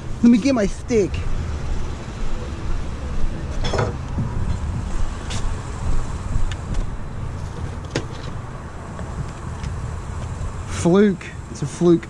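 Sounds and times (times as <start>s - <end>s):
low mechanical rumble: 1.2s - 11.6s.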